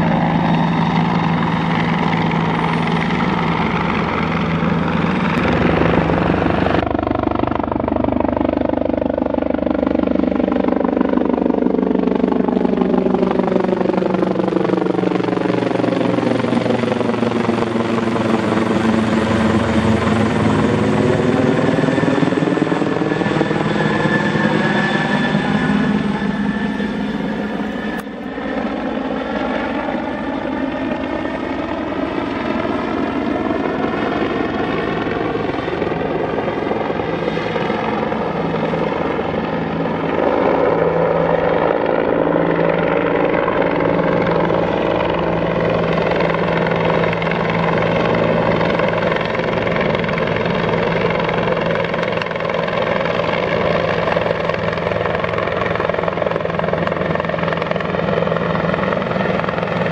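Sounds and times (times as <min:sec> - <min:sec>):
helicopter flying overhead: 0:00.0 - 0:59.9.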